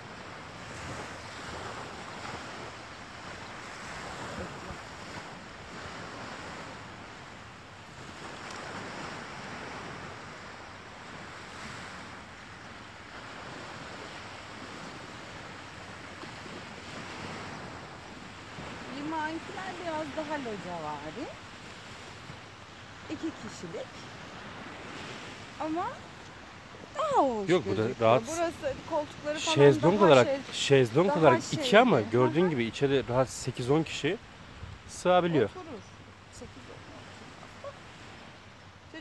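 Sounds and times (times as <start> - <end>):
sea surf washing onto beach: 0.0 - 39.0.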